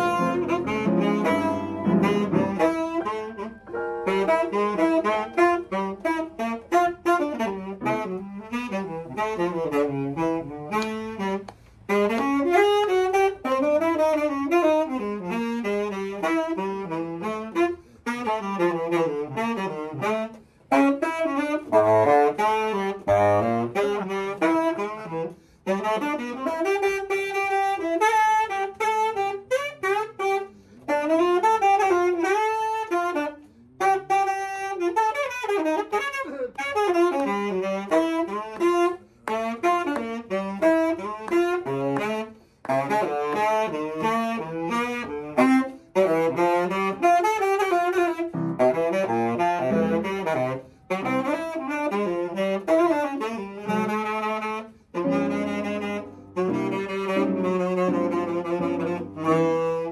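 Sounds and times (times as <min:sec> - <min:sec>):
saxophone playing jazz: 0:00.0 - 0:59.9.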